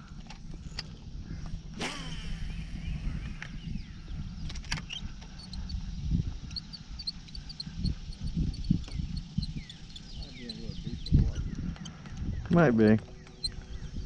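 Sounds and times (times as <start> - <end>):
birds chirping faintly: 0.0 - 14.0
wind rumble on microphone: 0.0 - 14.0.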